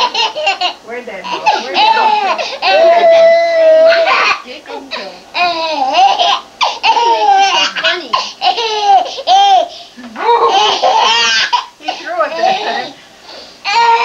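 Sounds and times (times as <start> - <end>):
baby laughing: 0.0 - 12.9.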